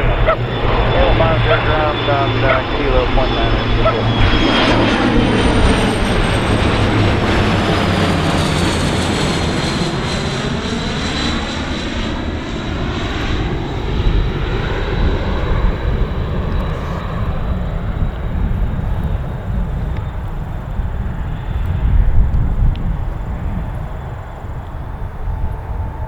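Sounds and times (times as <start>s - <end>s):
jet passing by: 0.0s - 26.0s.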